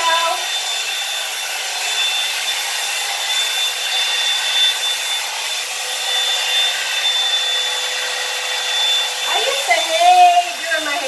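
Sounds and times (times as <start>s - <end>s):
hot-air brush blowing with whine: 0.0s - 11.0s.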